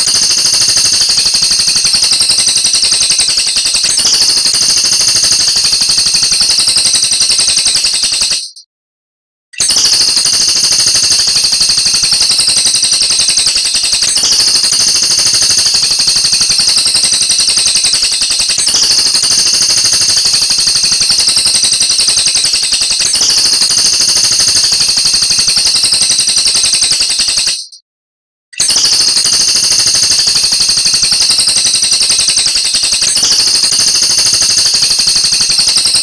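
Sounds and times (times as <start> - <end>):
bird high-pitched rattling trill: 0.0 - 8.6, 9.6 - 27.8, 28.6 - 36.0.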